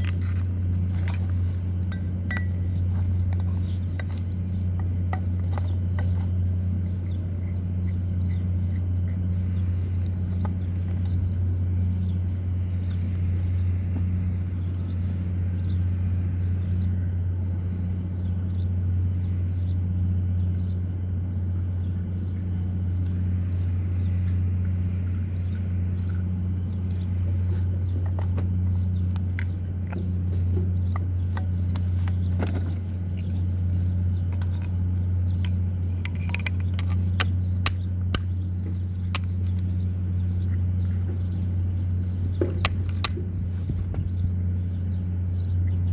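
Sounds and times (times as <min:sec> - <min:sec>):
machine humming: 0:00.0 - 0:45.9.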